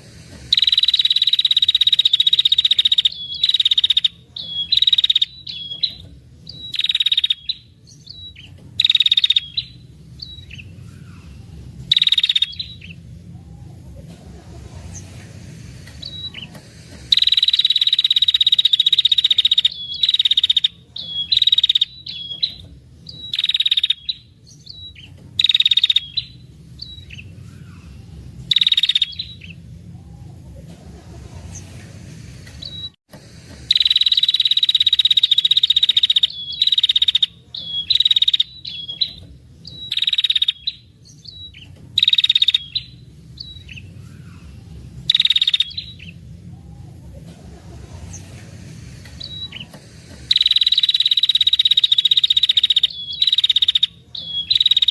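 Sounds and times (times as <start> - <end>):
bird harsh buzzing trills: 0.0 - 13.9, 14.7 - 30.4, 32.4 - 47.1, 47.7 - 54.9.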